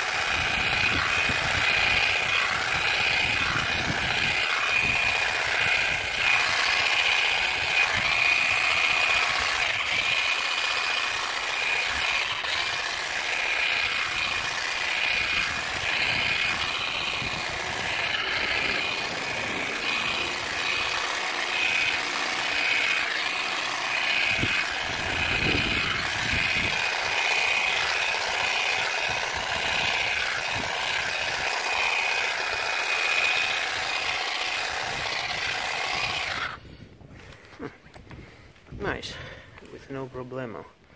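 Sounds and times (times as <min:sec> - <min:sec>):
blade rattling: 0:00.0 - 0:36.6
grass shear motor whine: 0:00.0 - 0:40.6.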